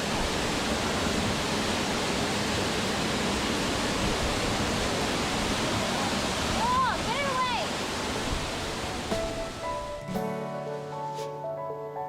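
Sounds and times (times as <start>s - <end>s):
waterfall rushing into pool: 0.0s - 10.2s.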